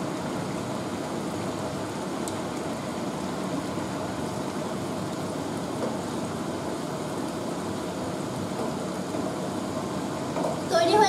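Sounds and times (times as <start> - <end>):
curry boiling in a pan: 0.0 - 11.0.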